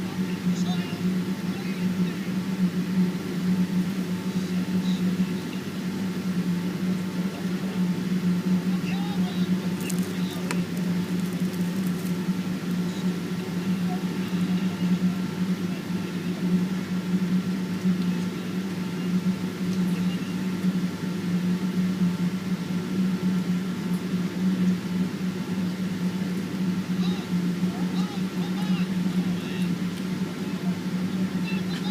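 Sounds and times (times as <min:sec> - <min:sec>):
airplane cabin drone: 0:00.0 - 0:31.9
fainter steady tones: 0:00.0 - 0:31.9.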